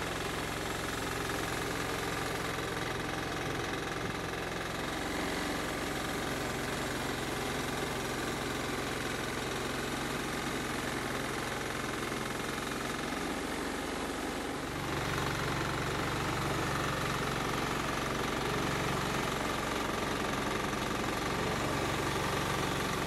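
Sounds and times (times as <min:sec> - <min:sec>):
sawmill engine running: 0:00.0 - 0:23.0.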